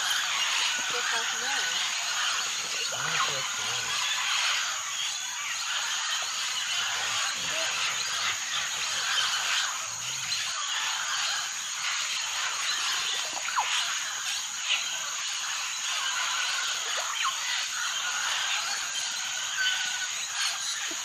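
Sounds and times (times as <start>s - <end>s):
insects and frogs chorus: 0.0s - 21.0s.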